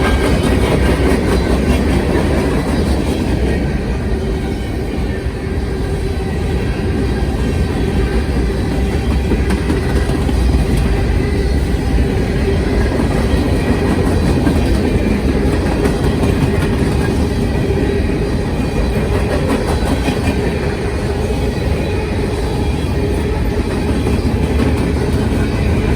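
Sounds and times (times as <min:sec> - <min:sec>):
freight train wheels rumbling: 0:00.0 - 0:25.9.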